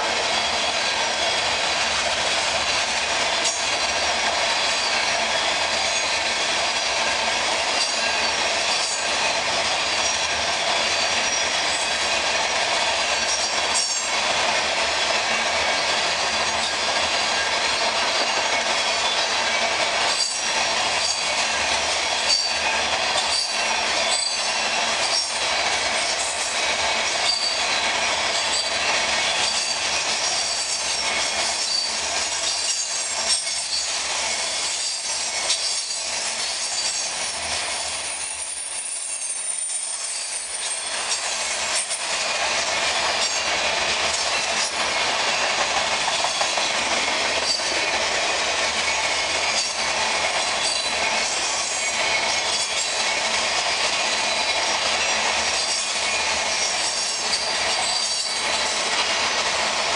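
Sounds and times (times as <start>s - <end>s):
steel wheels rumbling on rail: 0.0s - 59.9s
train wheels clicking: 0.0s - 59.9s
high wheel squeal: 7.6s - 12.2s, 12.8s - 14.2s, 15.4s - 59.9s.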